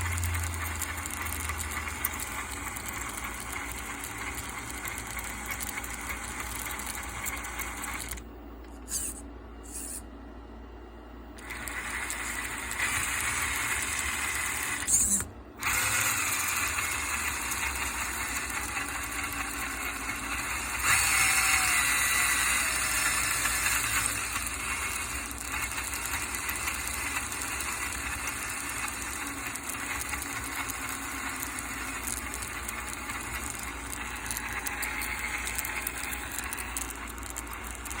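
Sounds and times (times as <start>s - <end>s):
electric motor whirring and rattling: 0.0s - 10.1s, 11.4s - 38.0s.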